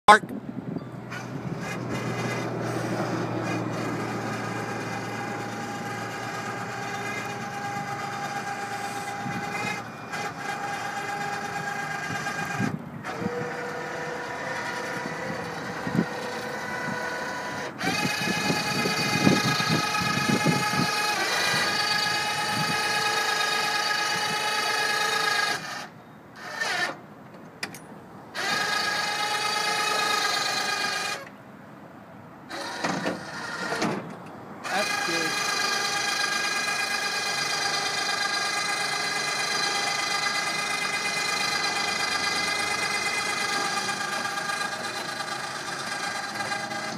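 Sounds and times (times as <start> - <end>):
electric winch motor whining: 1.1 - 27.0, 28.3 - 31.3, 32.5 - 46.9.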